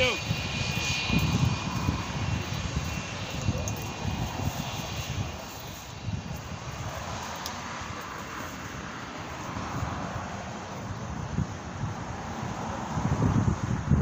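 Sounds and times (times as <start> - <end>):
distant jet engines running: 0.0 - 14.0
wind buffeting microphone: 0.0 - 14.0.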